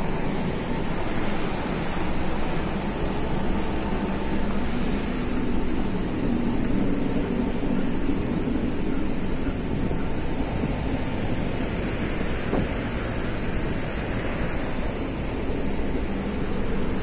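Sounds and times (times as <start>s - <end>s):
ship engines rumbling: 0.0s - 17.0s
water rushing from hull: 0.0s - 17.0s
wind: 0.0s - 17.0s.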